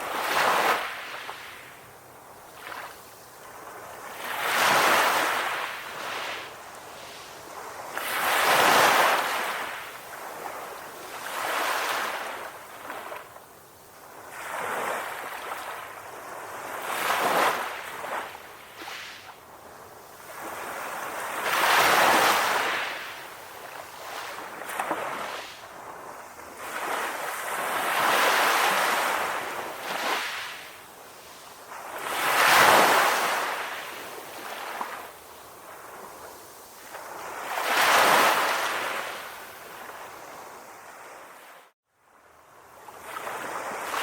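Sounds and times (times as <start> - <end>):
ocean waves washing onto shore: 0.0 - 44.0.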